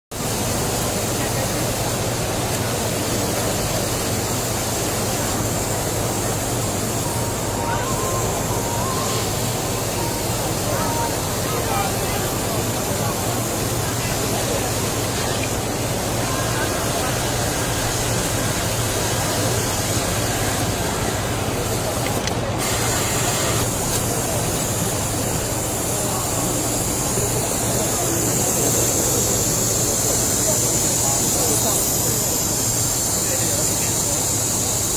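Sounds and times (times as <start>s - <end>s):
steady mechanical hum: 0.1s - 34.9s
higher hiss: 2.8s - 34.9s.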